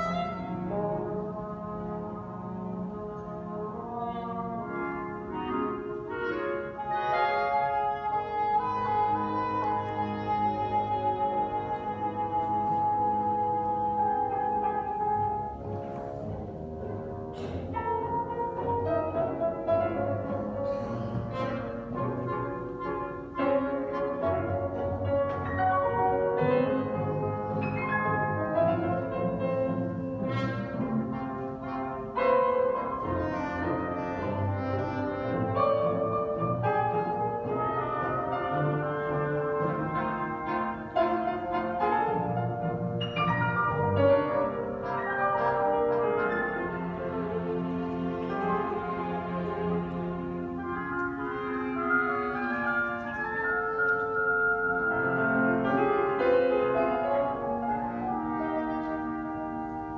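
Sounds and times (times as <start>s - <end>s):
orchestra playing piano concerto: 0.0s - 59.9s.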